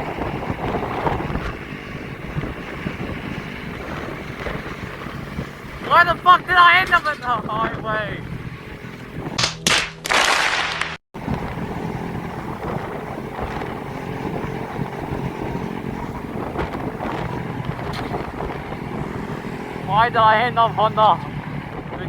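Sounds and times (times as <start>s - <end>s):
wind rushing over microphone: 0.0s - 9.6s, 11.2s - 22.0s
vehicle engine and road noise: 0.0s - 22.0s.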